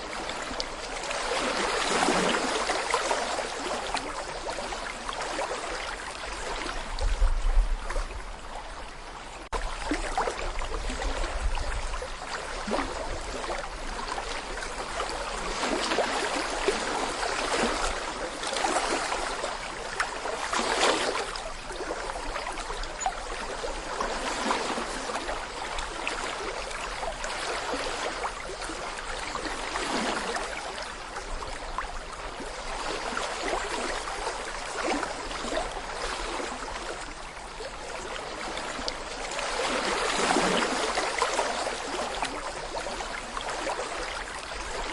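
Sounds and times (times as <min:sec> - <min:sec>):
stream babbling over stones: 0:00.0 - 0:07.0, 0:09.0 - 0:44.9.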